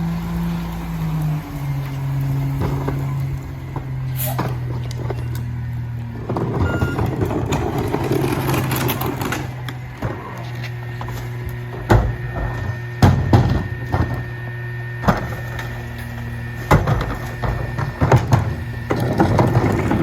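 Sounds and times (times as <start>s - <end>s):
garbage truck diesel idling: 0.0s - 20.0s.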